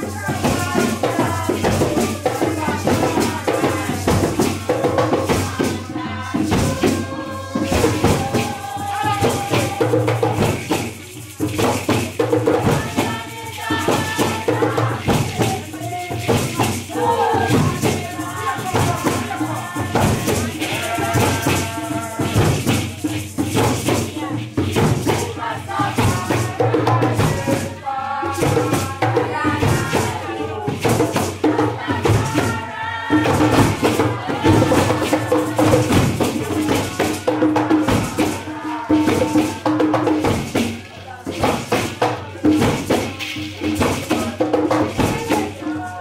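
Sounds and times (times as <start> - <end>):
shaker rattle percussion: 0.0 - 46.0.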